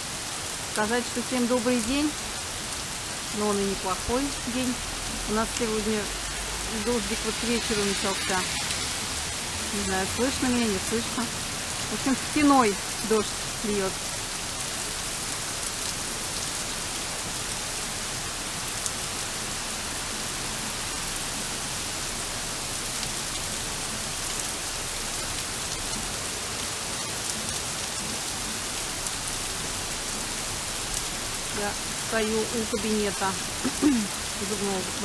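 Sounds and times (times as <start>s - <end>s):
torrential rain on pavement: 0.0s - 35.0s.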